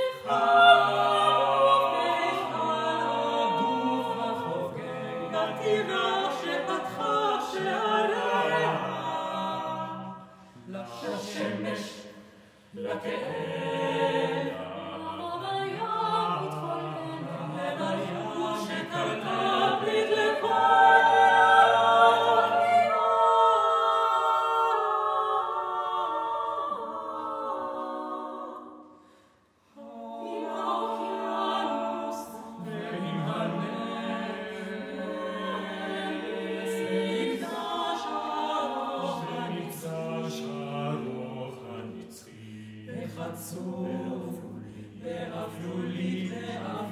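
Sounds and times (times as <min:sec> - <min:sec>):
chamber choir singing a cappella: 0:00.0 - 0:46.9.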